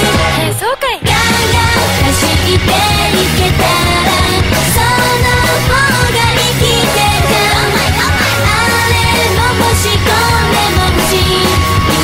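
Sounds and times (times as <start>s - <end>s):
pop-rock song with female vocals: 0.0s - 12.0s.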